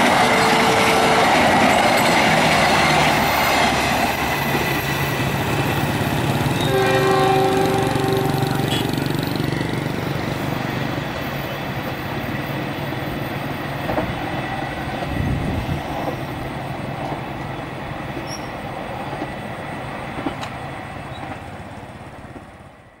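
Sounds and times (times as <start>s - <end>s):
train running on rails: 0.0s - 23.0s.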